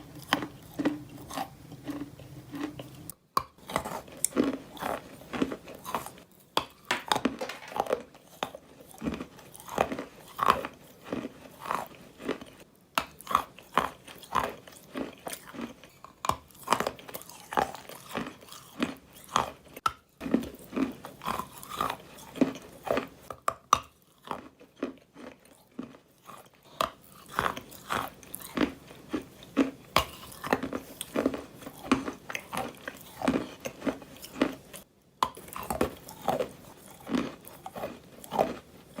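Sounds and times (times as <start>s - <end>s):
wet grainy crunching: 0.0s - 39.0s.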